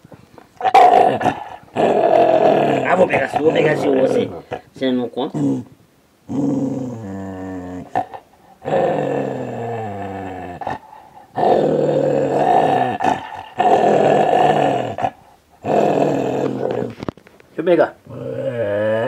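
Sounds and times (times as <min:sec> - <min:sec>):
dog growling: 0:00.6 - 0:17.1, 0:18.0 - 0:19.0.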